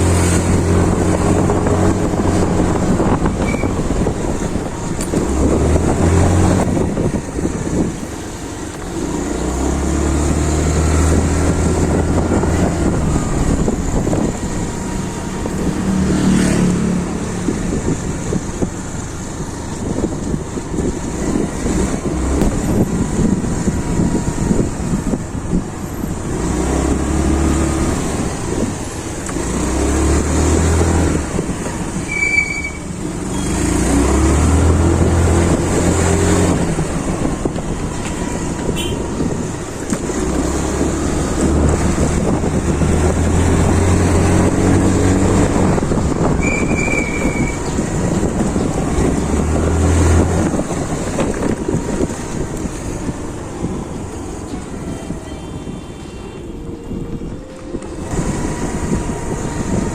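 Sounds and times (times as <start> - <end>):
scooter engine and exhaust: 0.0 - 59.9
wind buffeting microphone: 0.0 - 59.9.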